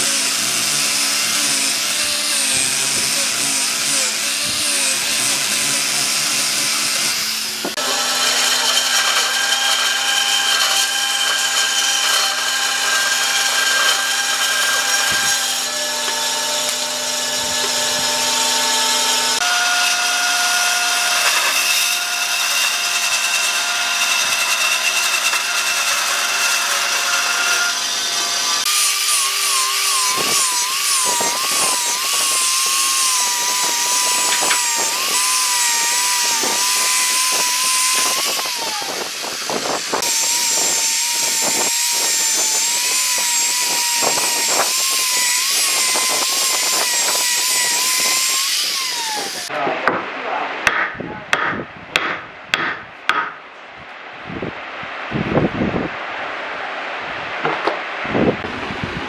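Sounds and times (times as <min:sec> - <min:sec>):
angle grinder sanding wood: 0:00.0 - 0:49.5
bandsaw cutting wood: 0:00.0 - 0:49.6.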